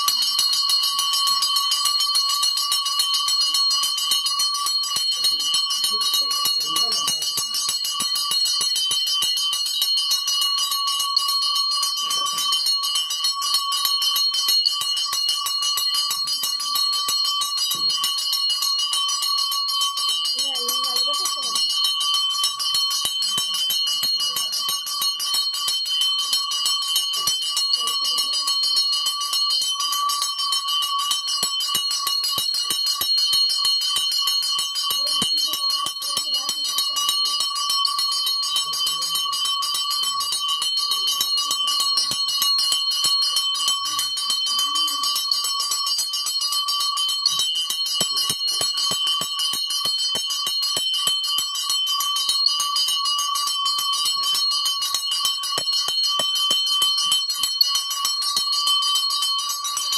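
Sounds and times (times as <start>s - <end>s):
hand bell ringing continuously: 0.0s - 59.9s.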